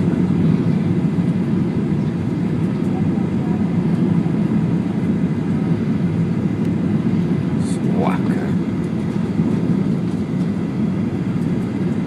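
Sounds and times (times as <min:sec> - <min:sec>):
engine and airflow roar in cabin: 0:00.0 - 0:12.0.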